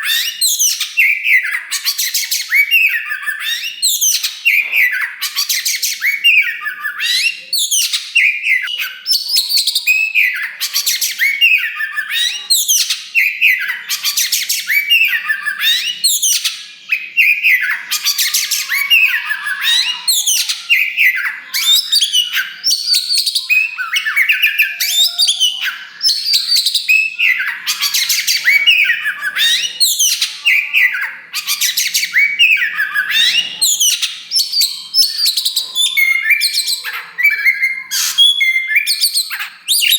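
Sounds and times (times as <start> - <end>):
songbird singing loudly: 0.0 - 39.9.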